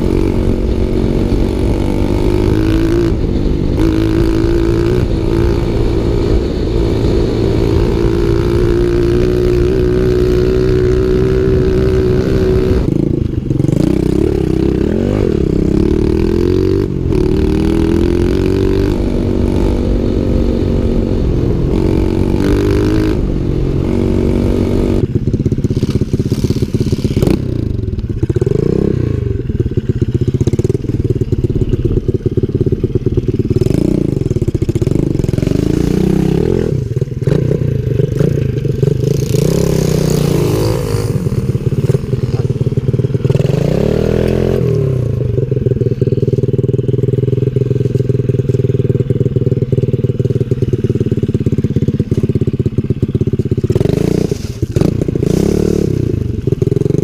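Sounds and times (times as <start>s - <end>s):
small motorbike engine revving: 0.0s - 57.0s.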